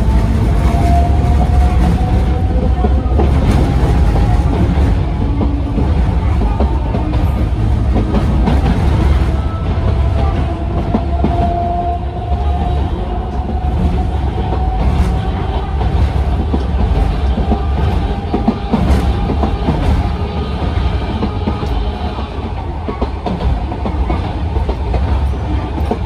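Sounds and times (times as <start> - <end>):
train interior rumble: 0.0 - 26.0.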